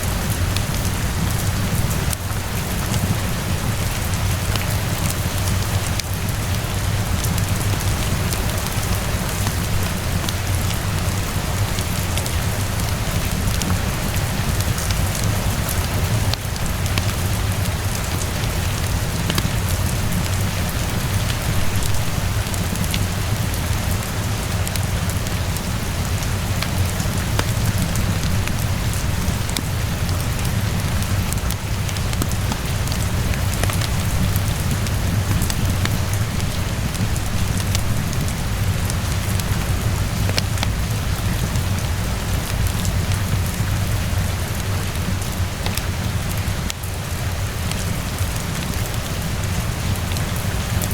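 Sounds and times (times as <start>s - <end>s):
wood fire crackling: 0.0s - 49.4s
heavy rainfall: 0.0s - 50.9s.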